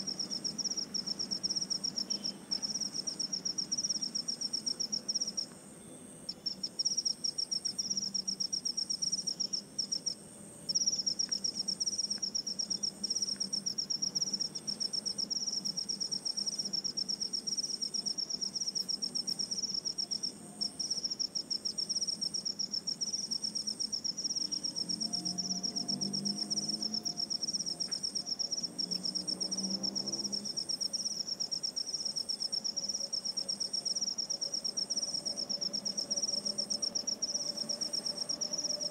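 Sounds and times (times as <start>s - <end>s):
higher insect call pulsing: 0.0s - 38.9s
insects trilling: 0.0s - 38.9s.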